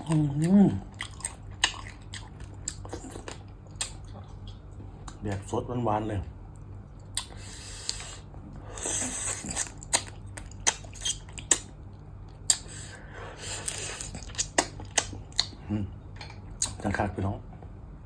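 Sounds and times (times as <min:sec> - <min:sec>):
crunching and chewing: 0:00.0 - 0:05.5, 0:06.6 - 0:15.6.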